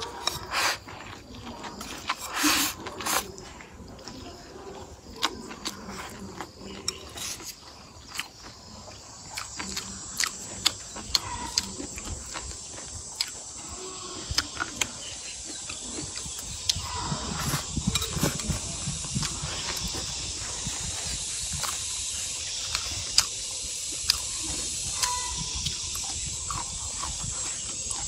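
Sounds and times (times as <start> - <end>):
chewing and slurping noodles: 0.0 - 28.0.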